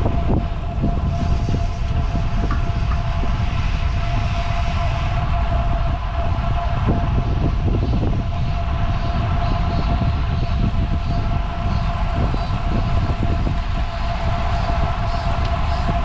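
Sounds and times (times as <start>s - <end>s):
thin whine: 0.0s - 16.0s
wind buffeting microphone: 0.0s - 16.0s.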